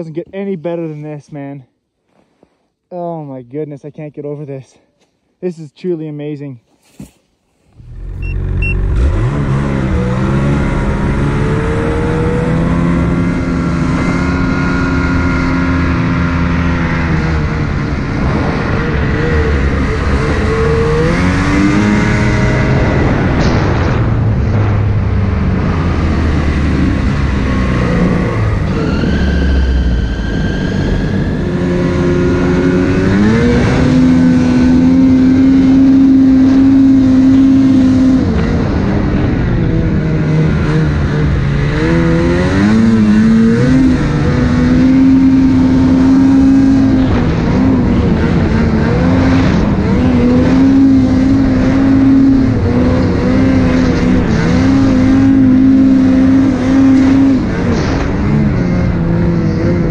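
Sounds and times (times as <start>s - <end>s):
snowmobile engine revving: 6.8s - 59.9s.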